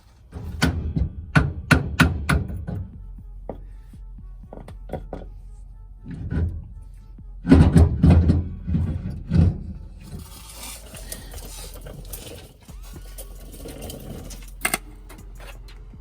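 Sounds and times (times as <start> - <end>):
heavy metal clunks and knocks: 0.3 - 5.4, 6.0 - 15.7.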